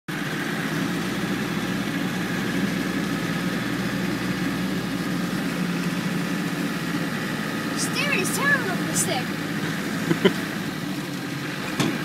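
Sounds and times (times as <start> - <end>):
vehicle engine running: 0.1 - 12.0.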